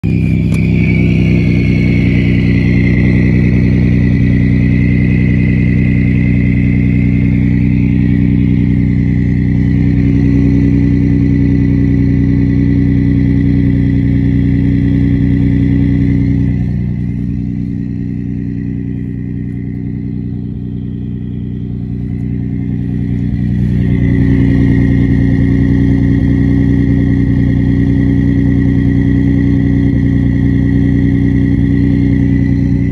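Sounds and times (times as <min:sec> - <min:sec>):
engine exhaust idling: 0:00.0 - 0:32.9.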